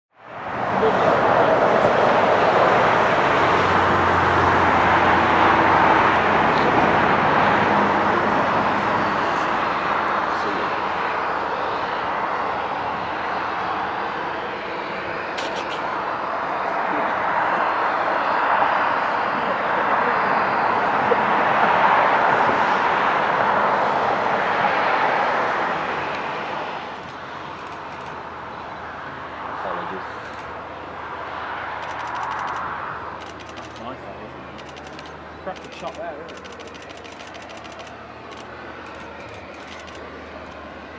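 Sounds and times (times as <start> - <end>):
jet aircraft rushing noise: 0.4 - 40.9.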